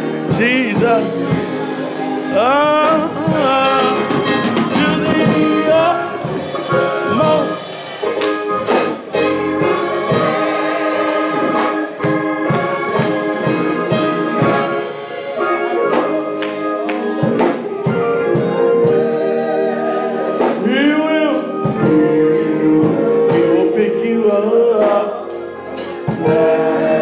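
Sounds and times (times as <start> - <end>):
church band music: 0.0 - 27.0.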